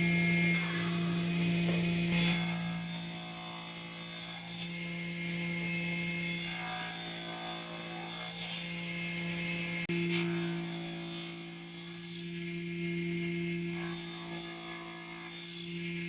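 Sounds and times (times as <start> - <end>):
wood being rasped: 0.0 - 12.4, 13.6 - 15.9.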